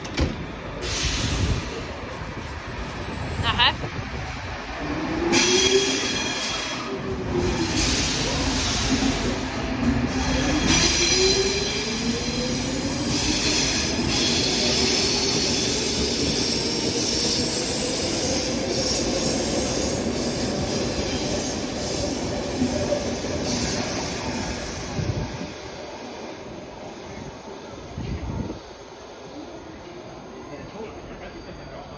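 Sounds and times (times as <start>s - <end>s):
train rumbling on rails: 0.0s - 31.9s.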